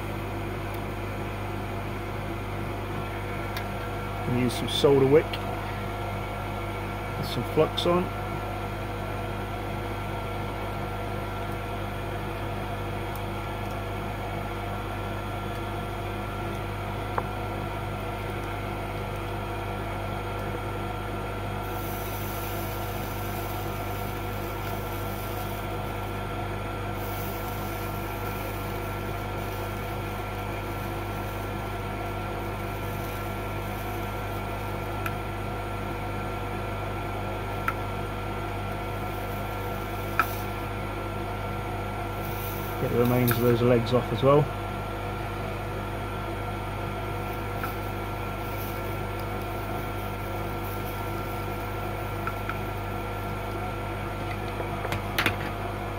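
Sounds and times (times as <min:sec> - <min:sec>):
extractor fan humming: 0:00.0 - 0:55.9.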